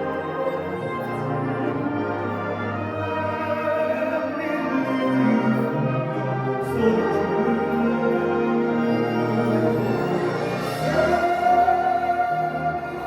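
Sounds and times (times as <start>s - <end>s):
orchestra playing held chords: 0.0s - 13.0s.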